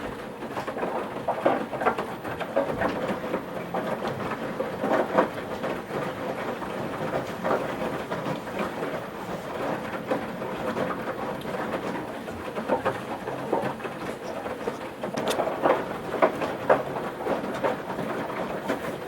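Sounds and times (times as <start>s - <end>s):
laundry sloshing in washing machine: 0.0s - 19.0s.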